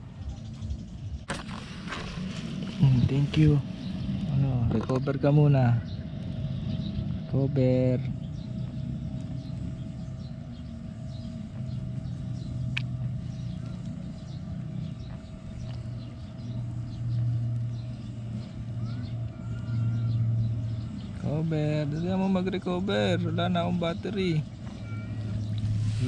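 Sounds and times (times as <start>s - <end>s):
low motor drone: 0.0s - 26.0s.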